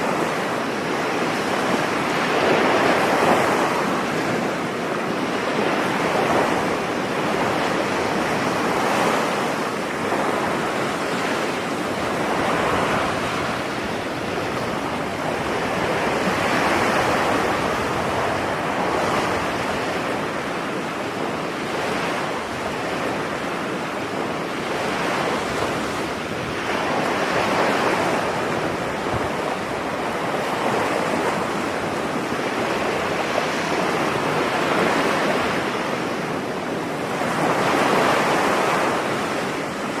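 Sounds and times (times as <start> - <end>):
waves breaking on beach: 0.0 - 40.0.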